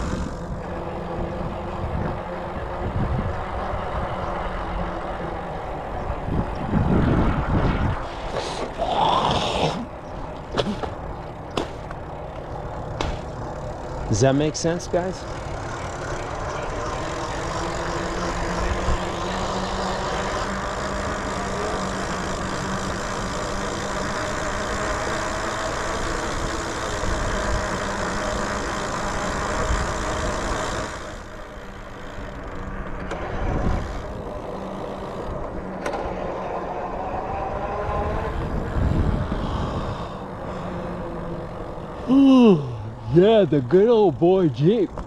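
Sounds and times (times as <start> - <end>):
road noise: 0.0 - 45.0
vehicle engine running: 0.0 - 45.0.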